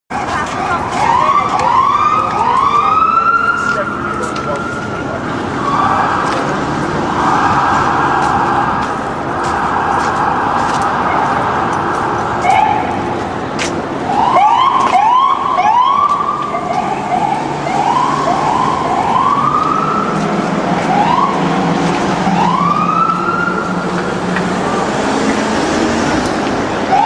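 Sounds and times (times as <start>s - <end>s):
low vehicle hum: 0.1s - 26.8s
police sirens whooping: 0.2s - 27.0s.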